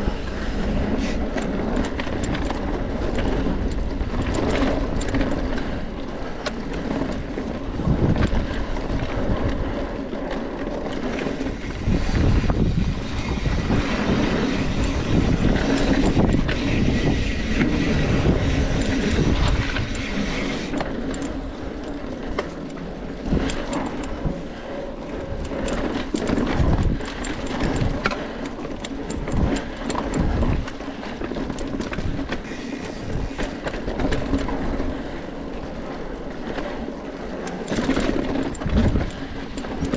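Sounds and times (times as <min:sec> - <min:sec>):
bike thuds and rattles: 0:00.0 - 0:09.7, 0:10.3 - 0:24.5, 0:25.1 - 0:35.0, 0:37.4 - 0:39.9
wind noise: 0:00.0 - 0:39.9.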